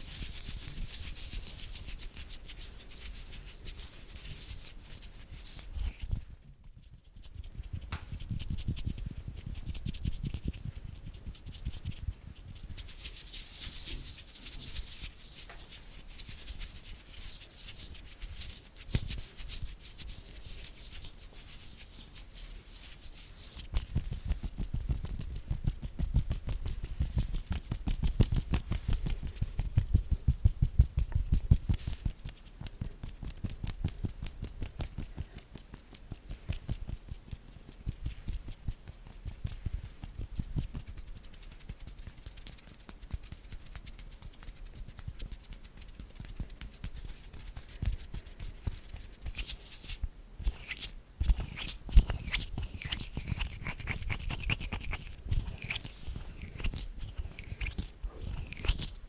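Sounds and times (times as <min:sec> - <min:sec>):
palms rubbing together: 0:00.0 - 0:59.0.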